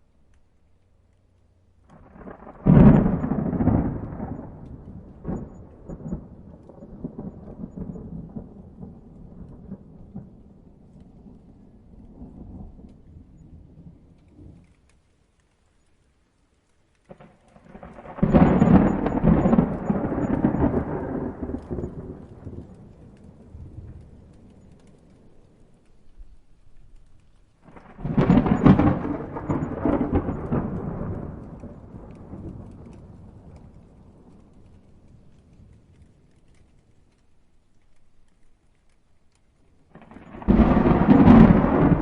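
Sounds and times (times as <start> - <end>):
thunder clap and rumble: 1.9 - 14.8, 17.1 - 36.8, 39.9 - 42.0.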